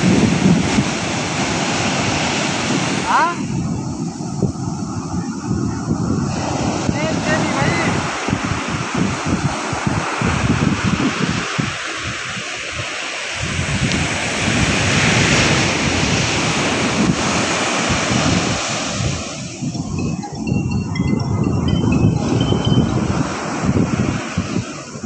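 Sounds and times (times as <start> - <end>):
sea surf breaking: 0.0 - 25.0
wind buffeting microphone: 0.0 - 25.0.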